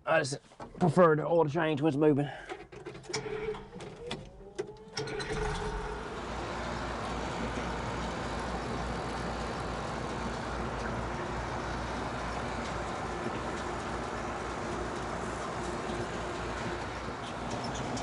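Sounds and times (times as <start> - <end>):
starter cranking diesel engine: 2.5 - 18.0
diesel engine running: 3.2 - 18.0.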